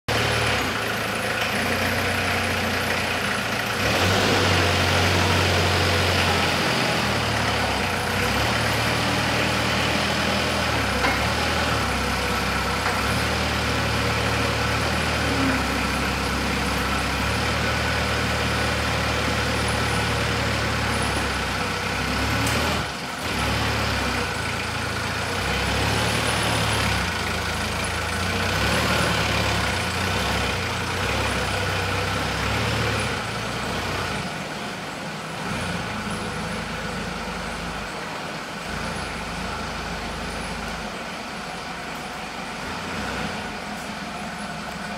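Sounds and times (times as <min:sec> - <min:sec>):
forklift engine idling: 0:00.0 - 0:44.9.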